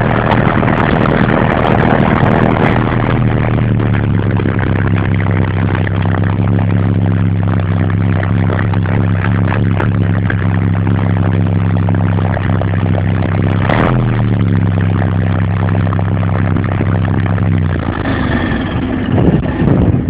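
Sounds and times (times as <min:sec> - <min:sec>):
tracked vehicle engine running: 0:00.0 - 0:20.0.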